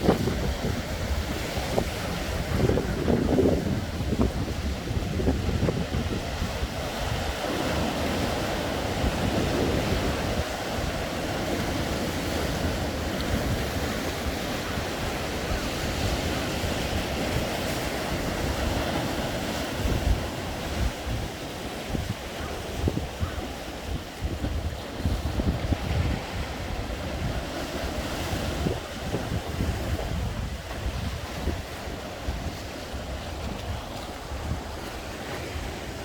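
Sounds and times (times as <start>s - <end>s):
sea waves breaking: 0.0s - 36.0s
wind buffeting microphone: 0.0s - 36.0s.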